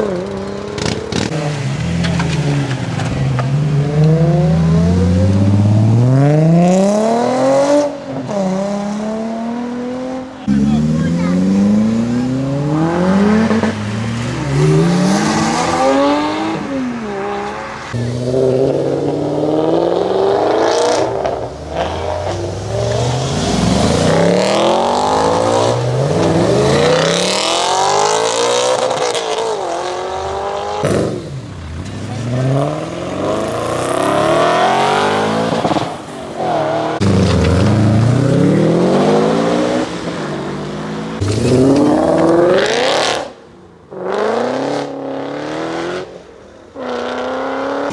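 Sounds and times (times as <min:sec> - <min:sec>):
car engines revving and accelerating: 0:00.0 - 0:47.9.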